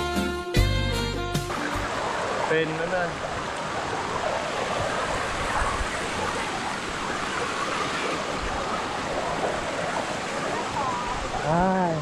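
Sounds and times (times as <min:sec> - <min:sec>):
stream water rushing over rocks: 0:01.4 - 0:12.0.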